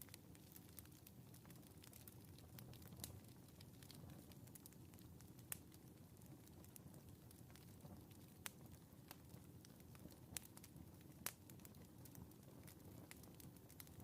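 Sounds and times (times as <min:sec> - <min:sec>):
fire pops: 0:00.0 - 0:14.0
wood fire crackling: 0:00.0 - 0:14.0.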